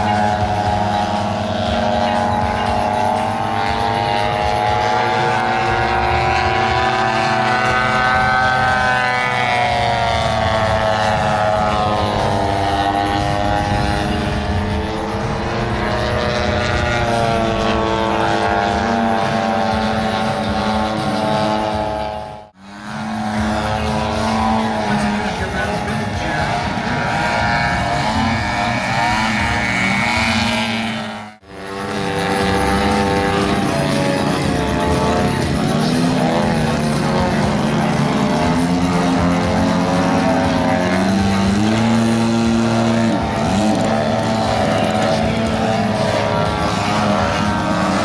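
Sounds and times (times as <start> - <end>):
model plane engine and propeller: 0.0 - 48.0.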